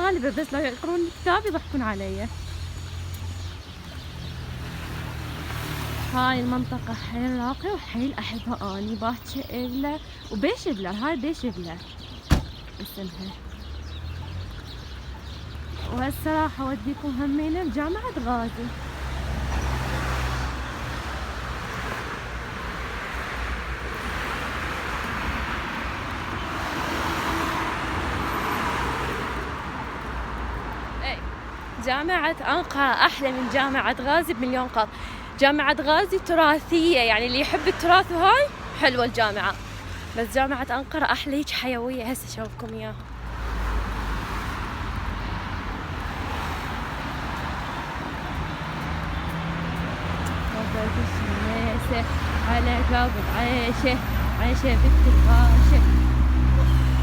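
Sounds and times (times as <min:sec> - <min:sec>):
cars and tyres rumbling: 0:00.0 - 0:57.0.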